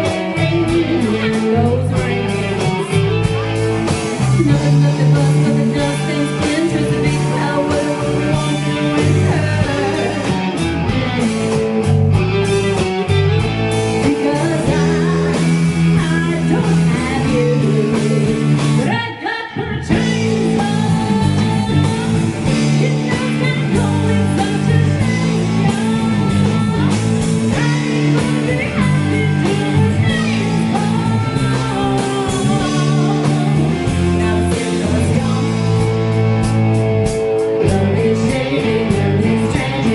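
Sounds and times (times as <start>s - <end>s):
person singing: 0.0s - 11.6s, 13.9s - 36.0s, 37.5s - 39.9s
band playing a song: 0.0s - 39.9s
guitar: 0.0s - 39.9s.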